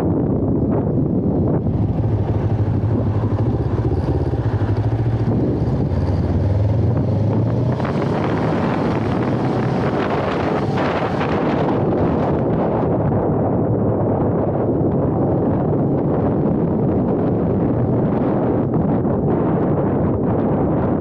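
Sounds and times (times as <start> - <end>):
motorcycle engine running: 0.0 - 19.6
wind rushing over microphone: 0.0 - 21.0.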